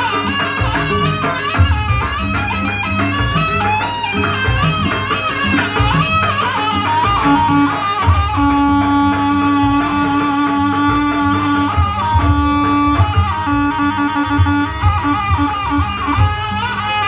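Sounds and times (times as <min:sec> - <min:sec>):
irregular drum beats: 0:00.0 - 0:17.0
melody with long high notes: 0:00.0 - 0:17.0.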